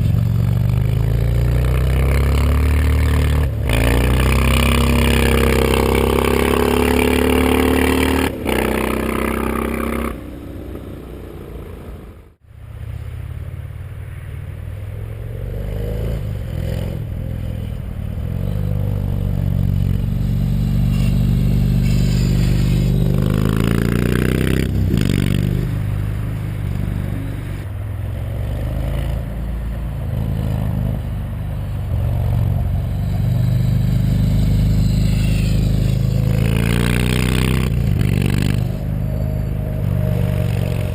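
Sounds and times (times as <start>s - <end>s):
motorcycle engine revving: 0.0s - 14.0s, 14.7s - 40.9s.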